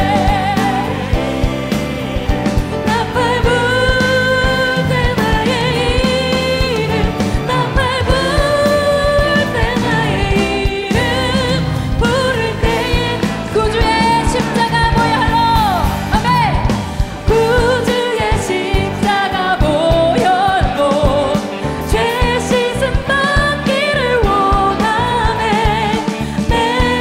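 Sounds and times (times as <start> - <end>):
group singing a hymn: 0.0 - 16.1, 17.3 - 27.0
worship band playing: 0.0 - 27.0.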